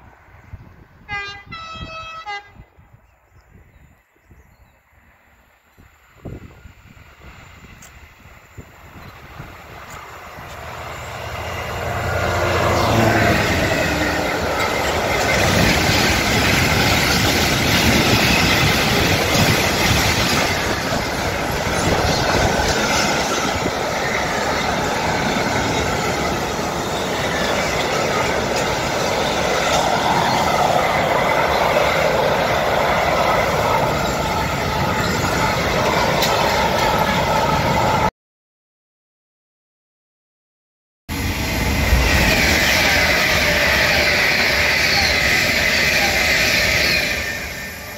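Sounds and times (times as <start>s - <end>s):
locomotive passing: 4.8s - 38.1s, 41.1s - 47.9s
train wheels on rail: 4.9s - 38.1s, 41.1s - 47.9s.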